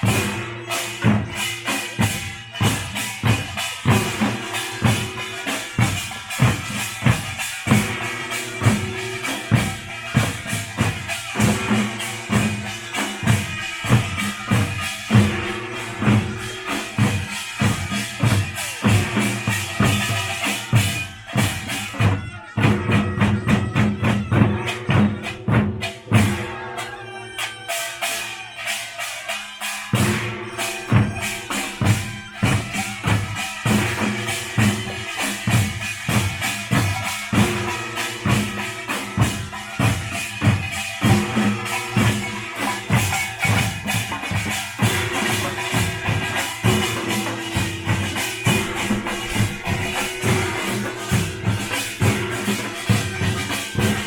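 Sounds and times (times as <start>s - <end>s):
drums beaten in fast rhythm: 0.0s - 54.0s
small handheld gongs clanging: 0.0s - 54.0s.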